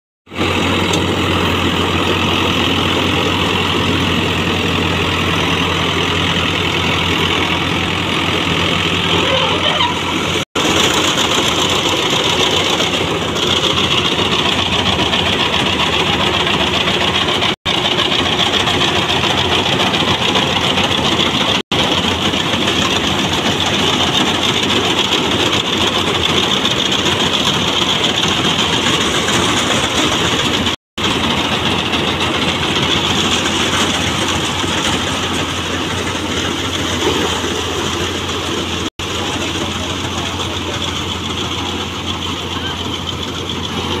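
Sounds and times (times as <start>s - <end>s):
tractor diesel engine running: 0.2s - 44.0s.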